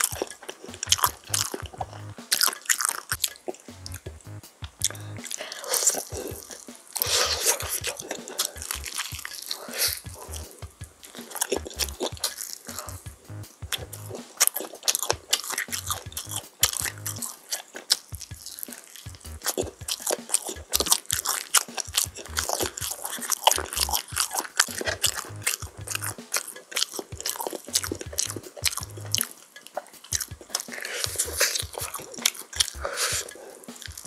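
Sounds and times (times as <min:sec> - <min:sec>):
chewing crispy chicken: 0:00.0 - 0:04.0, 0:04.8 - 0:13.1, 0:13.7 - 0:34.0.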